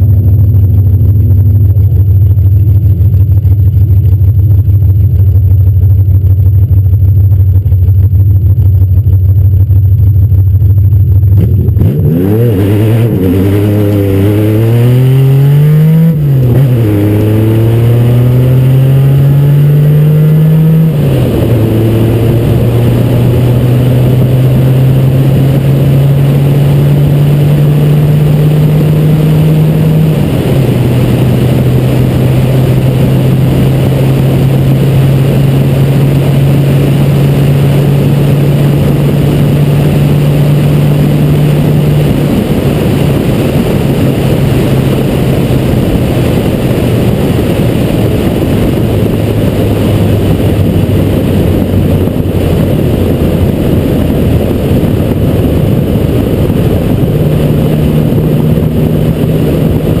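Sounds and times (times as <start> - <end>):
car engine running: 0.0 - 60.0
wind and road noise: 0.0 - 60.0.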